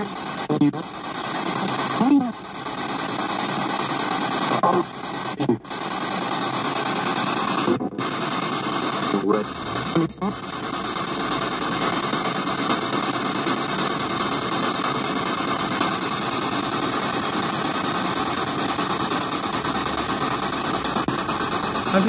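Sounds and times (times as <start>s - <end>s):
radio static sweeping stations: 0.0s - 22.0s.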